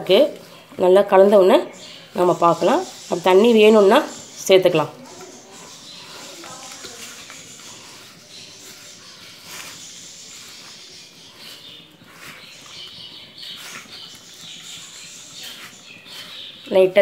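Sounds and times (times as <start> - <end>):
hand squishing dough in bowl: 0.0 - 17.0.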